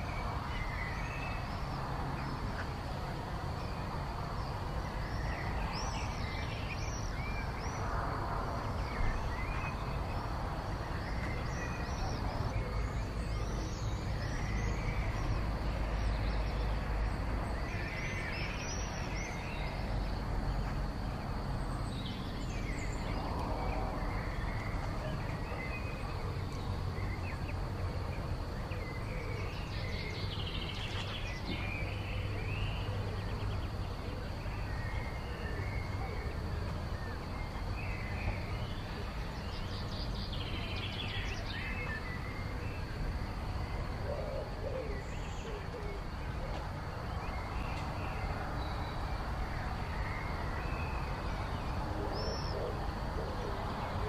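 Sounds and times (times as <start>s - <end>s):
birds chirping and warbling: 0.0s - 54.0s.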